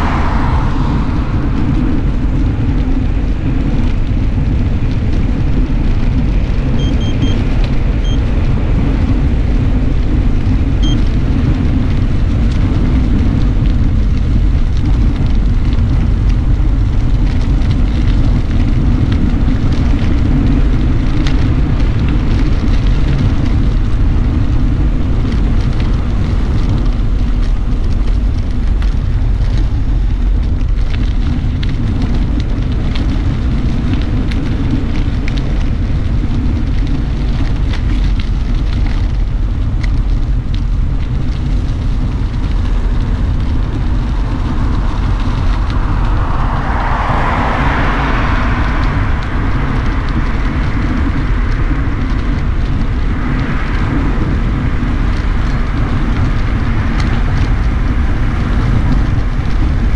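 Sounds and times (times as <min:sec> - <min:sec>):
bicycle tyres on block paving: 0:00.0 - 0:59.9
passing car tyre noise: 0:00.0 - 0:59.9
wind on microphone: 0:00.0 - 0:59.9.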